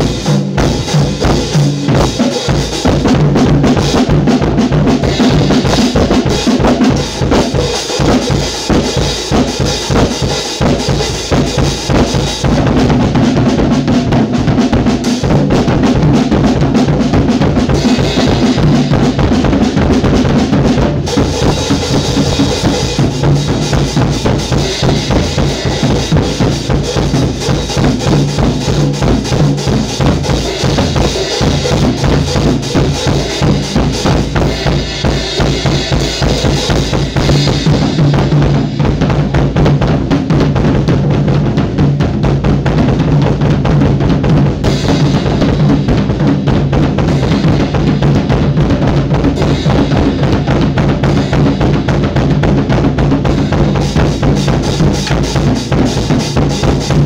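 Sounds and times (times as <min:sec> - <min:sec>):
bass drum and snare strokes: 0:00.0 - 0:57.0.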